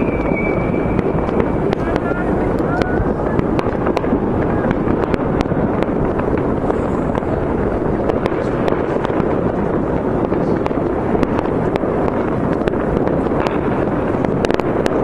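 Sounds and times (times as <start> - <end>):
distant fireworks crackling: 0.0 - 15.0
firecracker bangs: 0.0 - 15.0.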